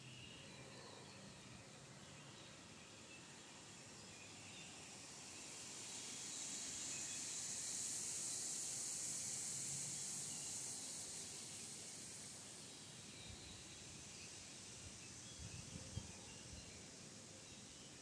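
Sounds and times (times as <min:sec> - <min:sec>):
faint woodland background: 0:00.0 - 0:18.0
high hissing insect buzz: 0:03.6 - 0:18.0.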